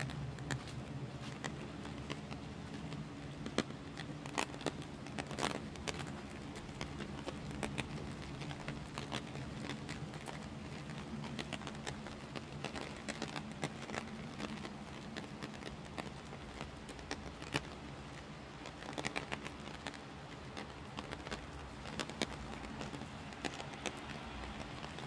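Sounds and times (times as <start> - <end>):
heavy rain on an umbrella: 0.0 - 25.0.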